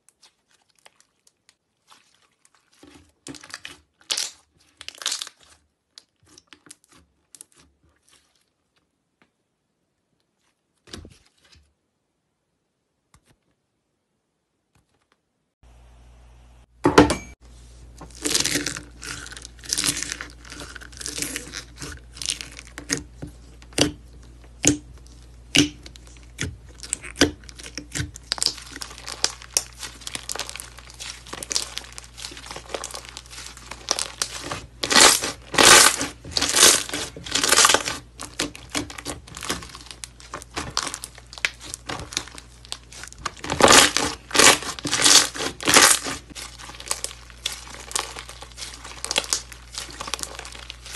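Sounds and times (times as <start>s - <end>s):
hands squishing slime: 0.0s - 8.6s, 18.1s - 50.9s.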